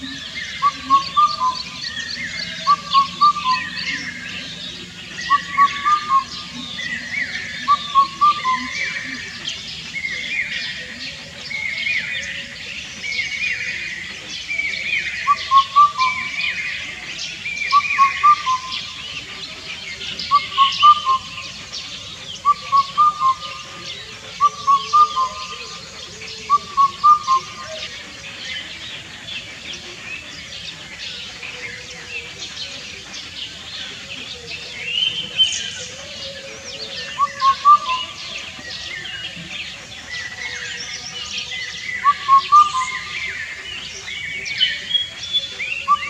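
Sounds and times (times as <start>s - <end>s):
cuckoo hooting song: 0.0s - 46.0s
small birds chirping: 0.0s - 46.0s.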